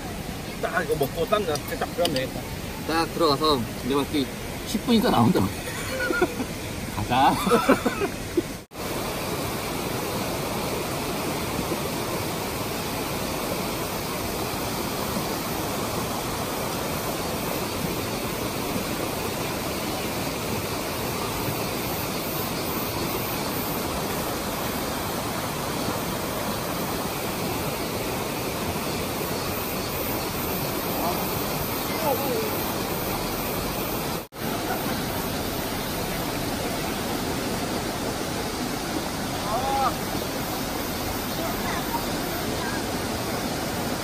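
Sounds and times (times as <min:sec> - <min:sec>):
stream rushing over rocks: 0:00.0 - 0:44.0.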